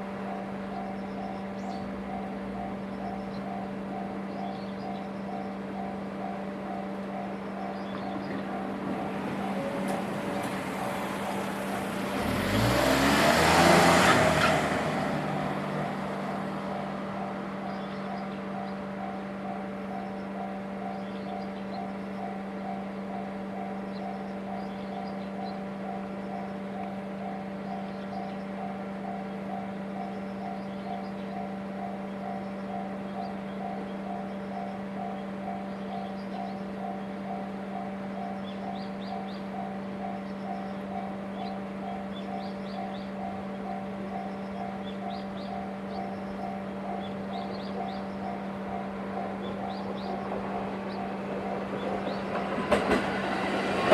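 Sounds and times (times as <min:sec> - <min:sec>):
level crossing warning bell ringing: 0:00.0 - 0:53.9.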